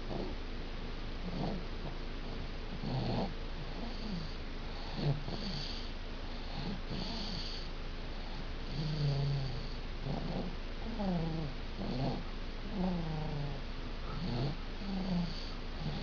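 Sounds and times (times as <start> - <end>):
baby snoring: 0.0 - 0.4, 1.2 - 16.0.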